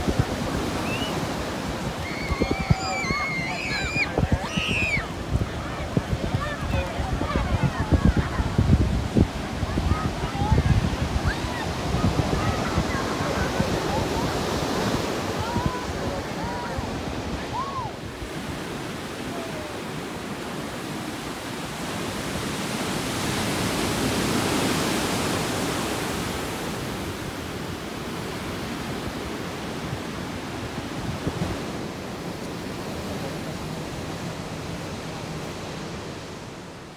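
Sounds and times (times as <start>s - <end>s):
ocean surf breaking: 0.0s - 36.9s.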